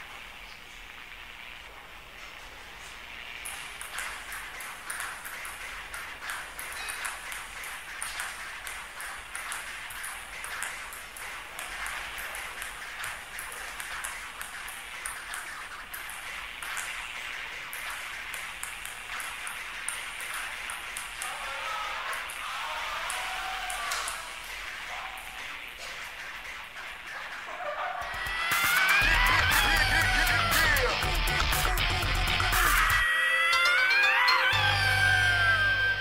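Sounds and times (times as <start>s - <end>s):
background hiss: 0.0s - 34.4s
ping-pong balls clicking: 3.3s - 34.6s.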